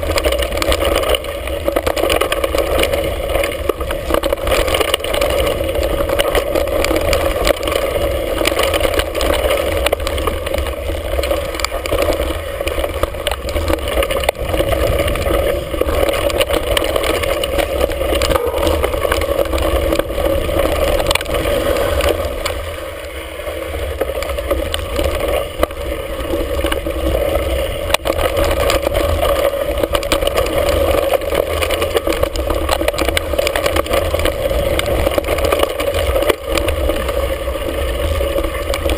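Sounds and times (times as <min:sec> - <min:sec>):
bike rattling over rough ground: 0:00.0 - 0:38.9.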